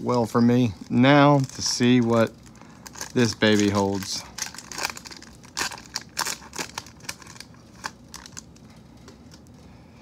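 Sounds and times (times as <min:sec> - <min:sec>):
foil wrapper crinkling and tearing: 0:00.1 - 0:09.5.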